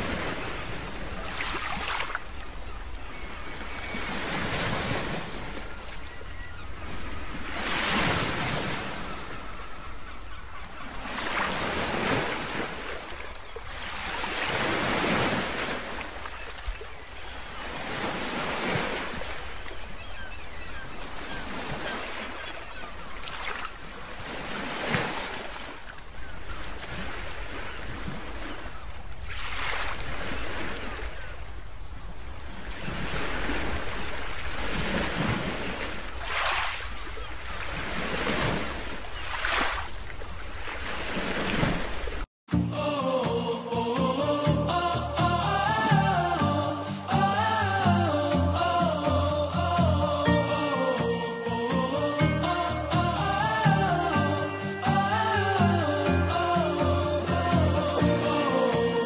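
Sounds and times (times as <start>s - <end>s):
sea waves washing in: 0.0s - 26.0s, 32.5s - 59.0s.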